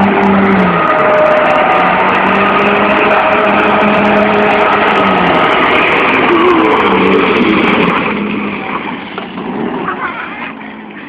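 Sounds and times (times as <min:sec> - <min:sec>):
car engine revving hard: 0:00.0 - 0:10.7.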